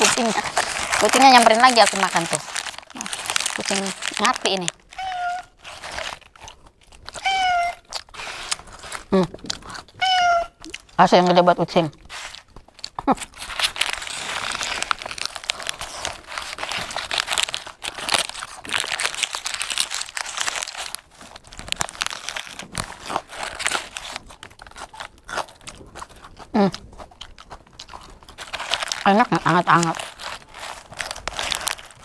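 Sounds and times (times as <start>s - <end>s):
crisp fried coating crunching: 0.0s - 32.0s
paper wrapper crinkling: 0.0s - 32.0s.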